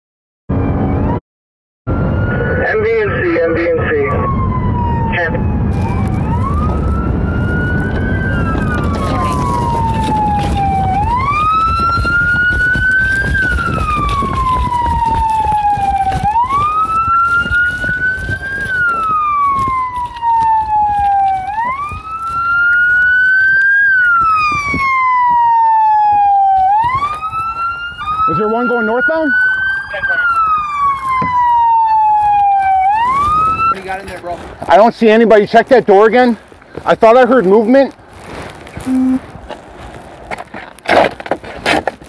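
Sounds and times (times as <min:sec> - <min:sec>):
police siren wailing: 0:00.5 - 0:01.2, 0:01.9 - 0:35.3
road noise rumble: 0:01.9 - 0:42.0.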